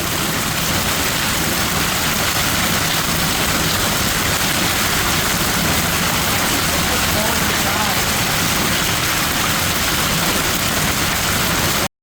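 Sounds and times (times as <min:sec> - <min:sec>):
hail and heavy rain falling: 0:00.0 - 0:11.9.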